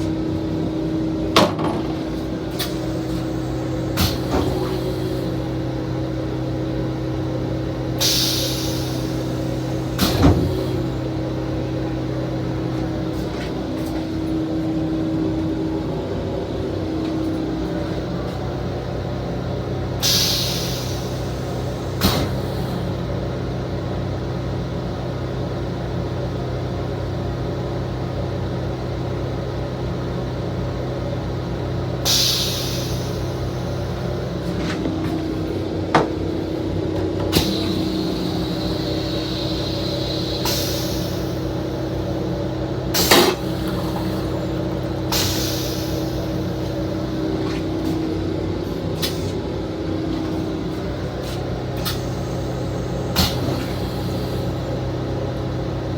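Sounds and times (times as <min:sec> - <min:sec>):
electric railcar humming: 0:00.0 - 0:55.9.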